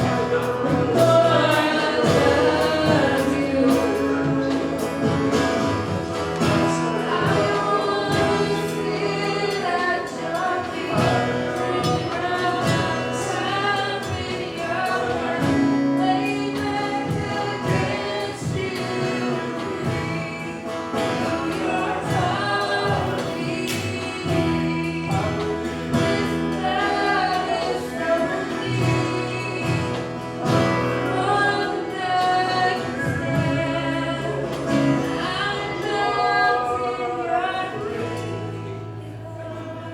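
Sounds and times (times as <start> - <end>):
congregation singing gospel song: 0.0 - 39.9.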